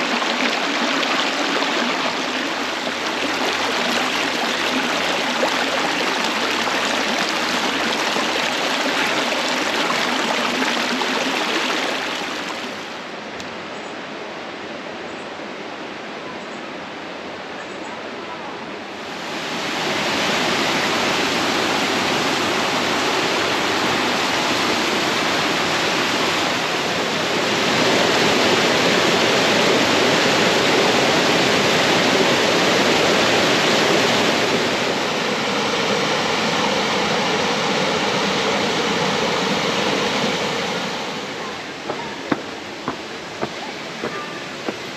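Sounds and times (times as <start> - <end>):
waterfall pouring into pool: 0.0 - 13.0, 19.2 - 44.9.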